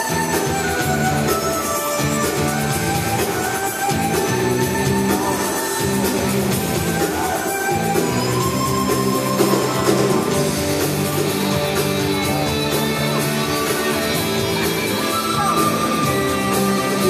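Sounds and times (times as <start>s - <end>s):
rock music over loudspeakers: 0.0s - 17.0s.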